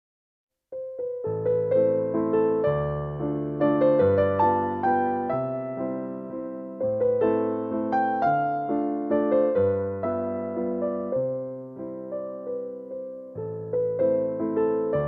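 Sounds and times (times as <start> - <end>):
gentle piano melody: 0.7 - 15.0.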